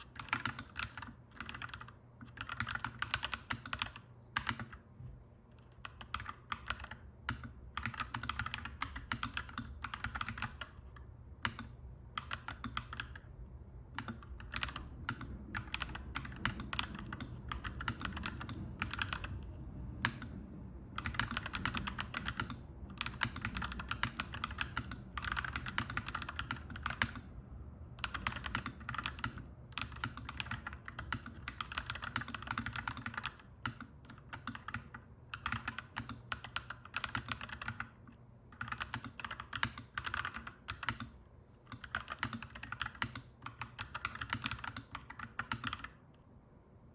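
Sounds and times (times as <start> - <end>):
mechanical keyboard typing: 0.0 - 4.8, 5.6 - 13.3, 13.9 - 27.3, 28.0 - 46.0.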